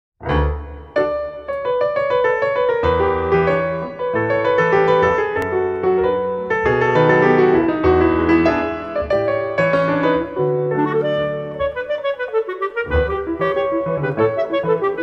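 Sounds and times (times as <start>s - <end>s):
piano music: 0.2s - 15.0s.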